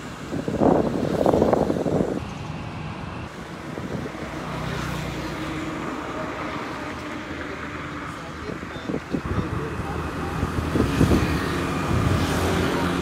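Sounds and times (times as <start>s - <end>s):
traffic engine hum: 0.0s - 13.0s.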